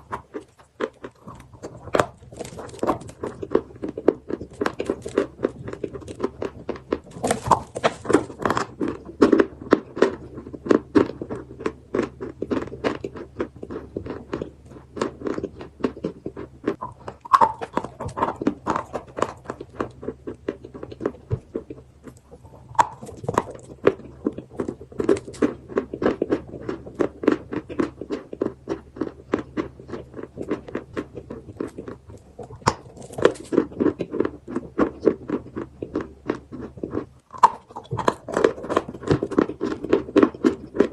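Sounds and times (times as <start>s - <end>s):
chalk being chewed: 0.0s - 40.9s.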